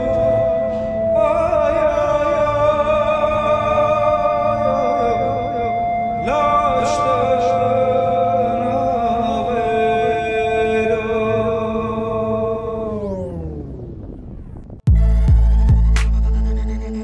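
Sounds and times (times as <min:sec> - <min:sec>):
man singing slow melody: 0:00.0 - 0:13.7
steady held drone: 0:00.0 - 0:17.0.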